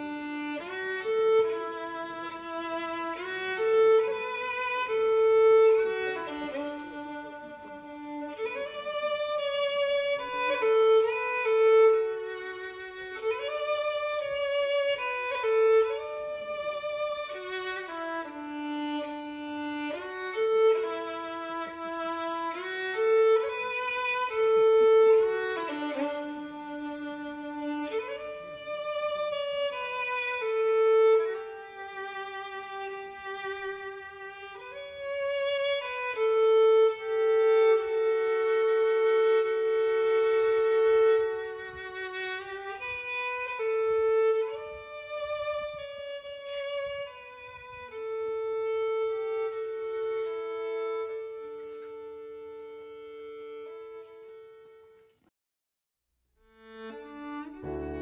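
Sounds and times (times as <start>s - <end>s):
slow violin melody: 0.0s - 55.3s, 56.4s - 58.0s.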